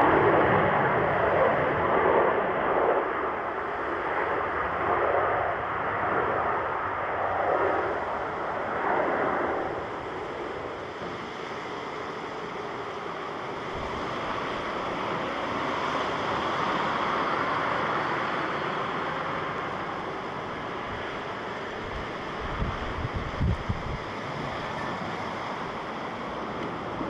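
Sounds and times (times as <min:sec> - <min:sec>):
distant jet engine rush: 0:00.0 - 0:27.0.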